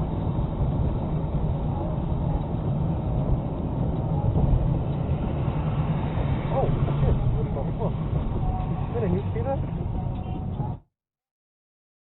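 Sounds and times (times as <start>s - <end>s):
car road and engine rumble: 0.0s - 10.8s.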